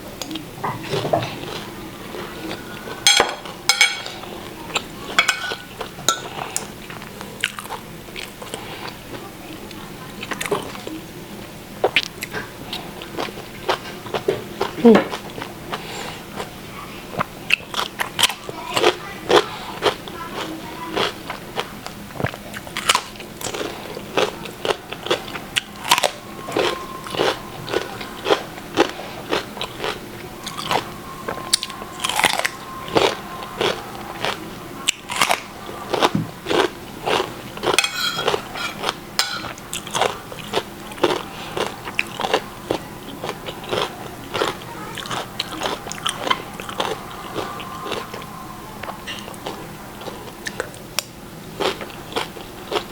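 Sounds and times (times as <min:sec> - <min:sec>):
person chewing crunchy food: 0:00.3 - 0:10.9, 0:11.8 - 0:52.9.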